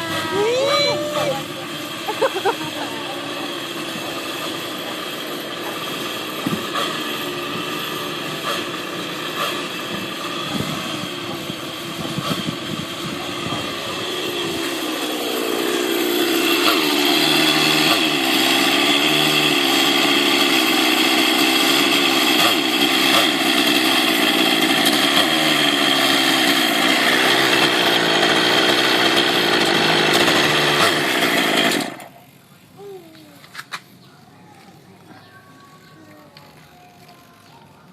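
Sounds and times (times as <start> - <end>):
model helicopter engine running: 0.0 - 32.5.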